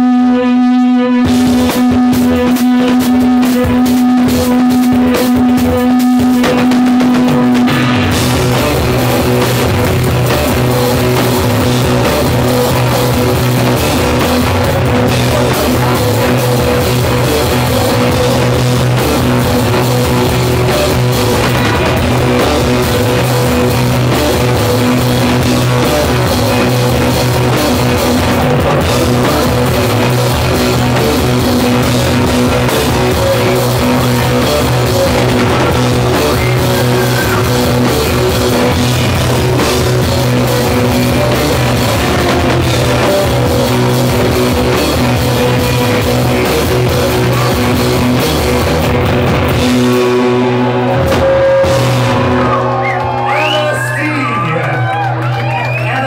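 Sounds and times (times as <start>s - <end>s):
low droning note: 0.0s - 48.2s
drum kit: 0.0s - 56.0s
electric guitar: 0.0s - 56.0s.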